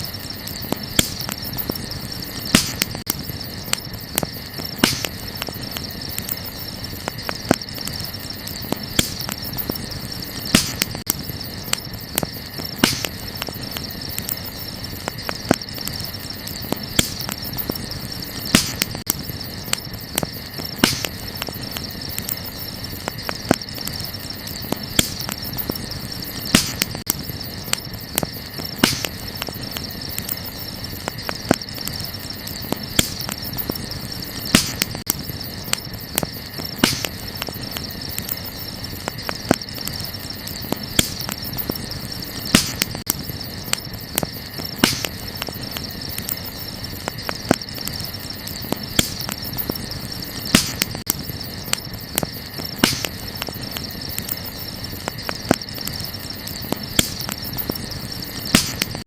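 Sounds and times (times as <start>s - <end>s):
crickets chirring: 0.0s - 59.0s
sharp pops from fire: 0.0s - 59.0s
wood fire crackling: 0.0s - 59.0s.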